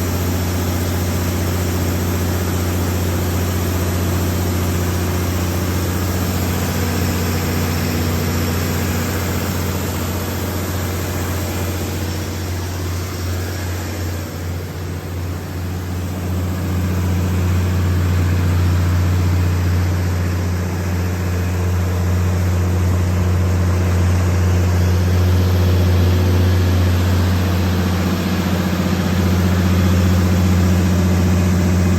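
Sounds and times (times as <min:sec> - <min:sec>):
diesel generator running: 0:00.0 - 0:31.9.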